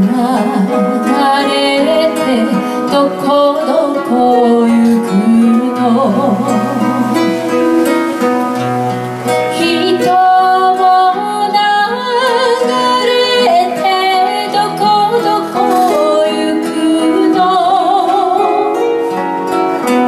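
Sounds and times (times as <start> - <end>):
person singing with vibrato: 0.0 - 19.4
acoustic guitars playing: 0.0 - 20.0.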